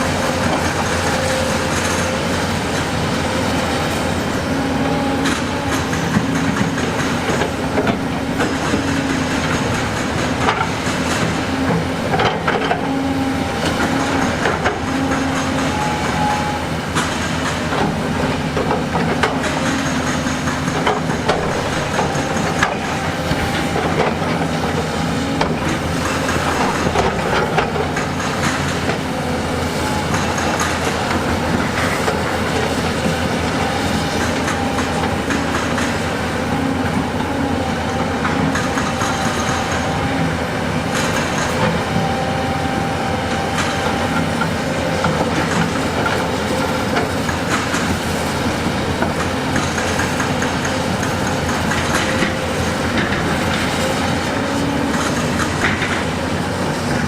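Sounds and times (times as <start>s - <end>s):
clanks and rattles of metal: 0.0s - 36.2s, 43.3s - 57.0s
diesel engine drone: 0.0s - 57.0s.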